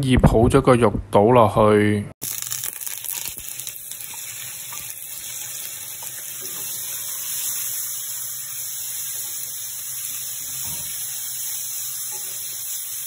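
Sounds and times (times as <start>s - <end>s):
meat sizzling in a wok: 2.2s - 13.0s.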